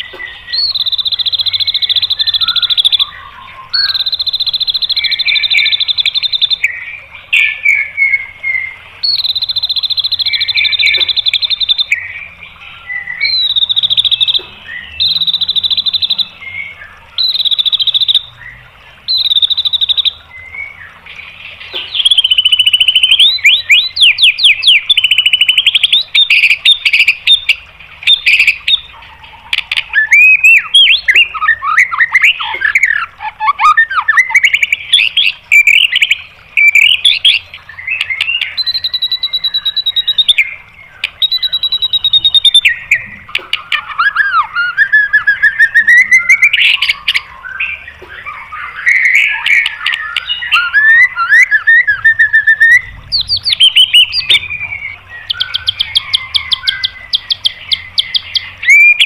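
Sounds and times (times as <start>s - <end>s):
songbird trilling: 0.0s - 59.0s.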